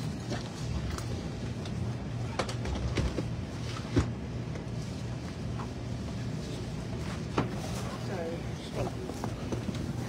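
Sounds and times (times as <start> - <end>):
train car hum: 0.0 - 10.0.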